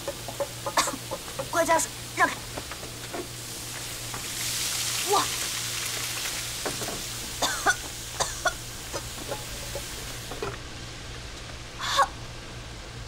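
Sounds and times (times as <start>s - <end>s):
hot wok sizzling: 0.0s - 13.0s.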